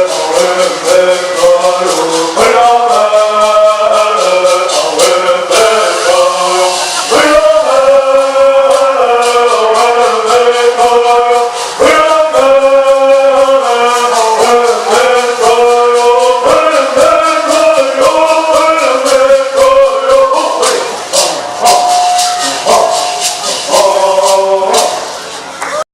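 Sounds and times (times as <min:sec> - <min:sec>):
group of singers chanting: 0:00.0 - 0:21.8
gourd rattles shaken: 0:00.0 - 0:25.6.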